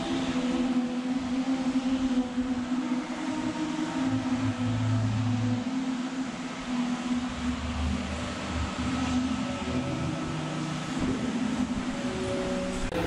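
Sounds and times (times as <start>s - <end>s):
drone of held tones: 0.0s - 13.0s.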